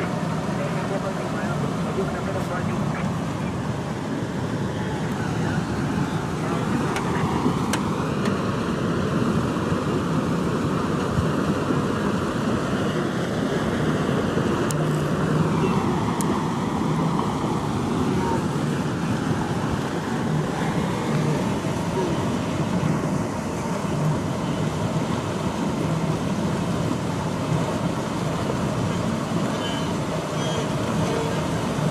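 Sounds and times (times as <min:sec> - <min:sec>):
herd crossing river: 0:00.0 - 0:31.9
wind on microphone: 0:00.0 - 0:31.9.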